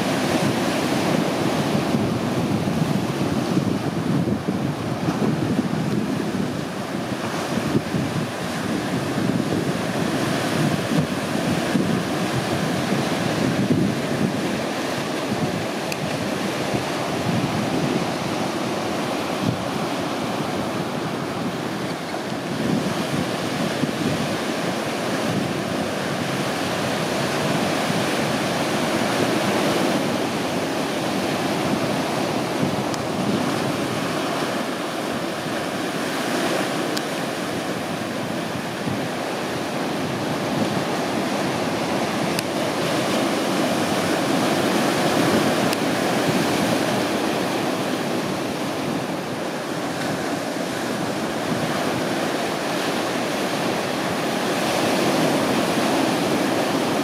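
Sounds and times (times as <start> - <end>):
sea water washing against rocks: 0.0 - 57.0.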